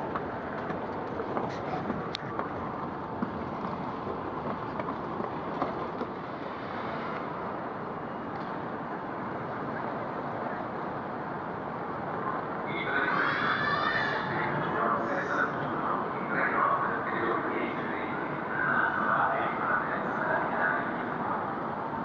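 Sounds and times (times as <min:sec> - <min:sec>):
echoing crowd and train noise: 0:00.0 - 0:22.0.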